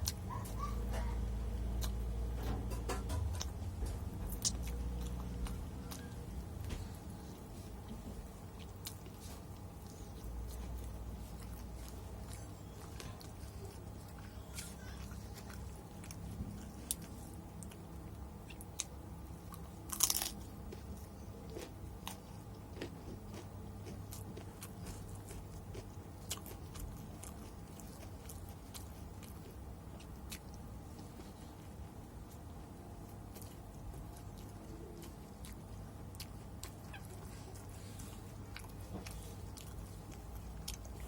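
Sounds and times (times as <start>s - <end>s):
chewing crunchy fried chicken: 0.0s - 41.0s.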